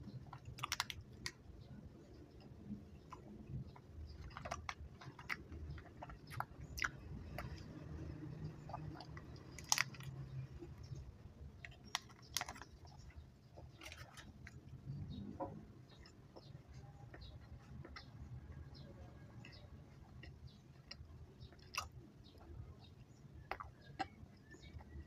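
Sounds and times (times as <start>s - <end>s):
person chewing sticky candy: 0.0s - 25.0s.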